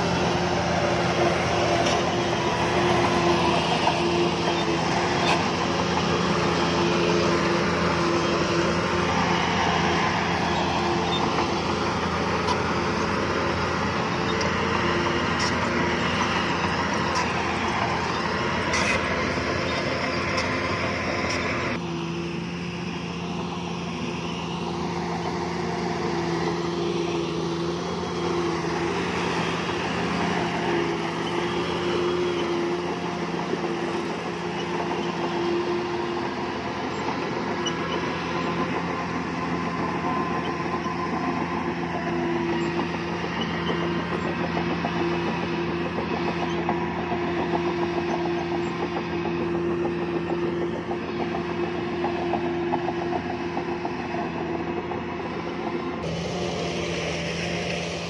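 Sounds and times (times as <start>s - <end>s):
diesel machinery engine drone: 0.0s - 58.0s.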